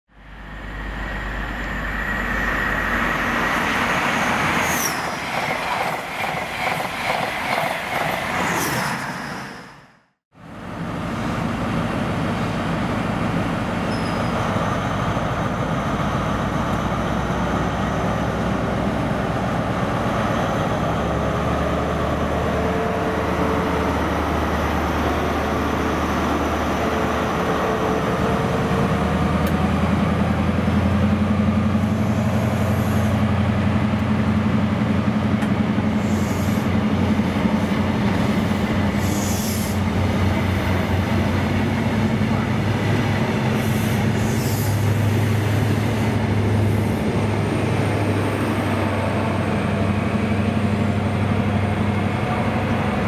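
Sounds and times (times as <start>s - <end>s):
diesel train engine running: 10.4s - 53.0s.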